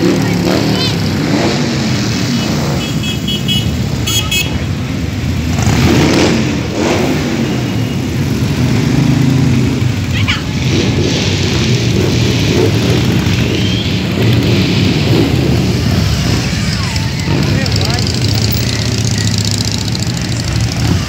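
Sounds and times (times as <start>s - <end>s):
motorcycles riding past: 0.0s - 21.0s.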